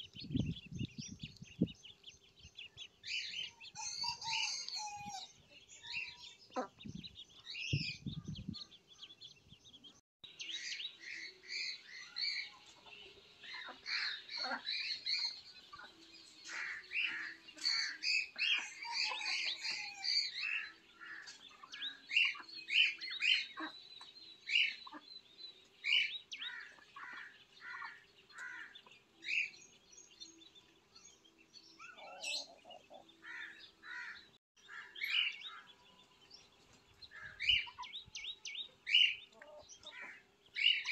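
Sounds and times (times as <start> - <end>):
ducklings peeping: 0.0 - 9.8, 10.5 - 29.5, 31.8 - 40.9.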